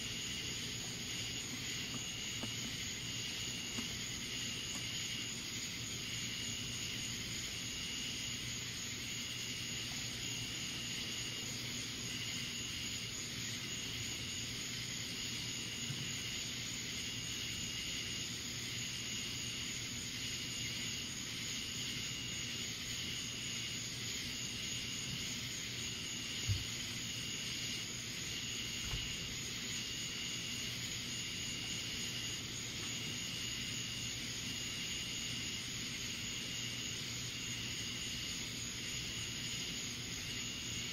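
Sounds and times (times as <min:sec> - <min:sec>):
night insects chirping: 0:00.0 - 0:40.9
outdoor hiss: 0:00.0 - 0:40.9.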